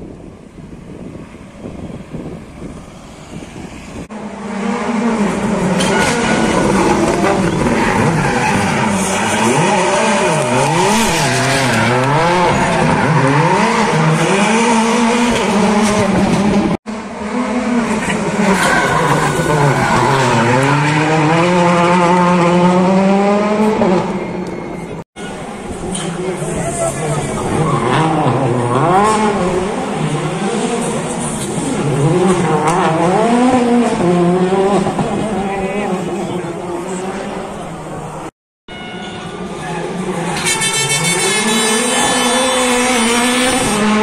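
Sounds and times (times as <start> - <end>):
rally car engine revving: 4.0 - 24.6, 25.6 - 38.3, 39.4 - 44.0.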